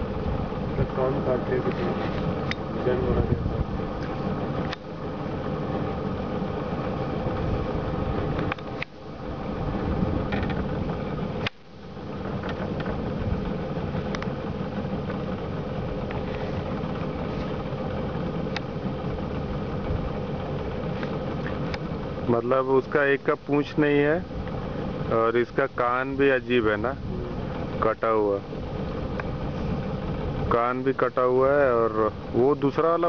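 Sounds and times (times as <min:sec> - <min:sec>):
boat engine idling: 0:00.0 - 0:33.0.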